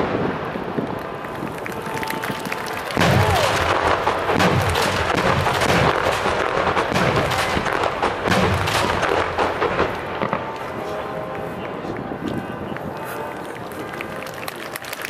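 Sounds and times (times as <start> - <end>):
fireworks bangs and booms: 0.0 - 13.3.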